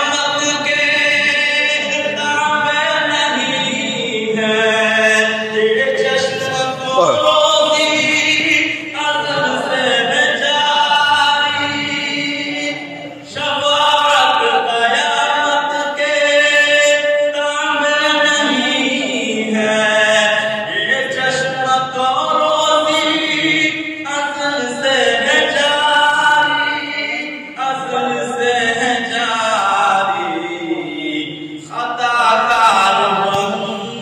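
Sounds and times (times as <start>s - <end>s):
man singing unaccompanied: 0.0s - 34.0s.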